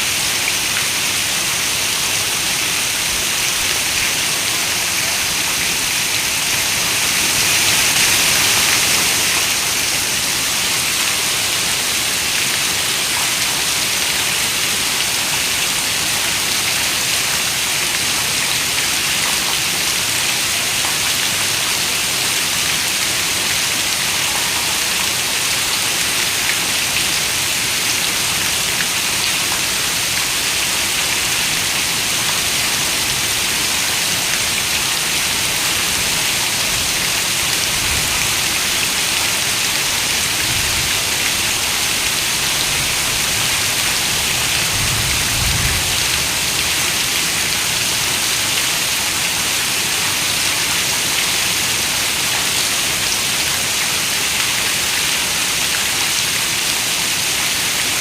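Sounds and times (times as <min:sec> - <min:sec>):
rain pattering: 0:00.1 - 0:58.0.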